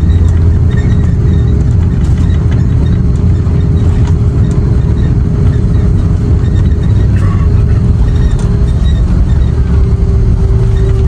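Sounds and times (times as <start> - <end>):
aircraft cabin rumble: 0.0 - 11.0
constant hum: 0.0 - 11.0.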